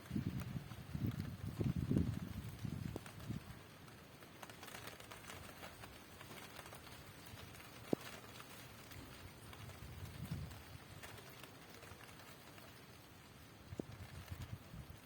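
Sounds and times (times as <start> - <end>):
low wind gust: 0.0 - 15.0
rain pattering: 0.0 - 15.0.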